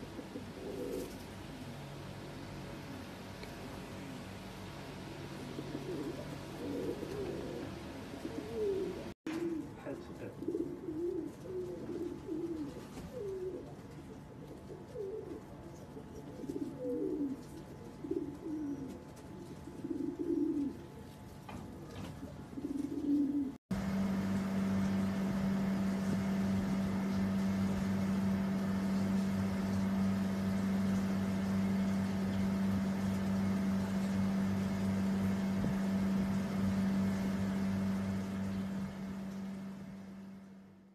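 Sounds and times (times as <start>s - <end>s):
steady low hum: 0.0s - 14.7s, 22.3s - 40.9s
pigeons cooing: 0.0s - 23.6s, 24.5s - 39.6s.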